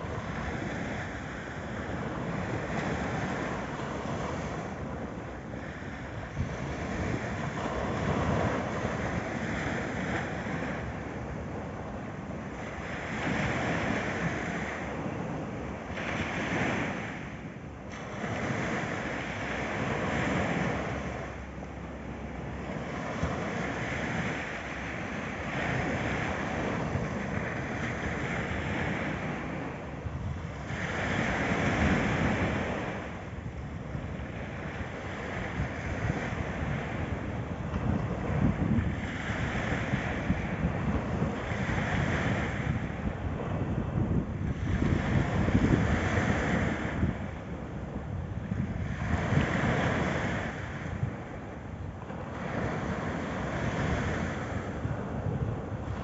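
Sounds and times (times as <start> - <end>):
waves breaking on sandy beach: 0.0 - 56.0.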